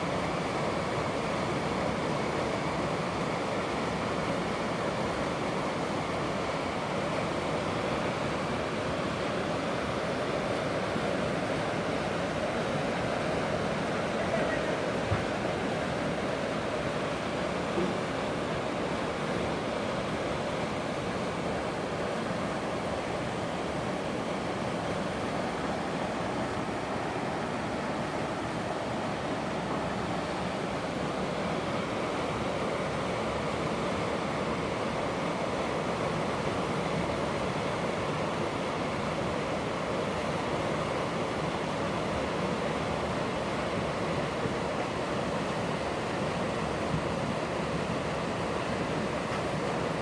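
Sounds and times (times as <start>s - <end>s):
wind: 0.0s - 50.0s.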